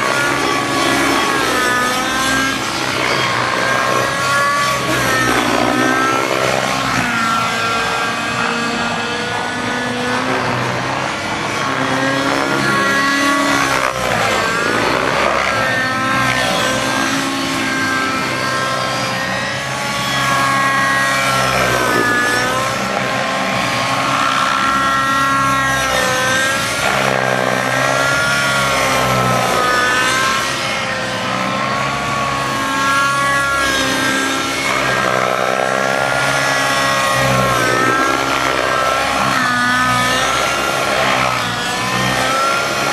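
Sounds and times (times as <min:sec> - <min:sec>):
model helicopter engine and rotors: 0:00.0 - 0:42.9.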